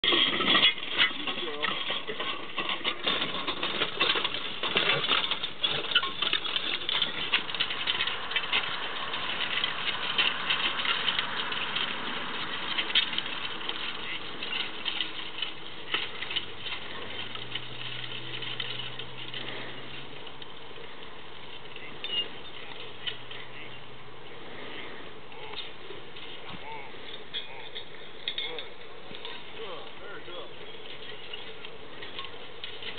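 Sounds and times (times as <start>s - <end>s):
disc harrow rattling and clanking: 0.0s - 32.9s.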